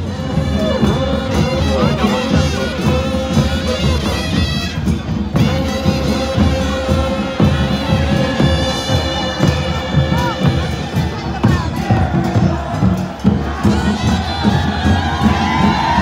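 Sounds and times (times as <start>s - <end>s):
drums beating: 0.0s - 16.0s.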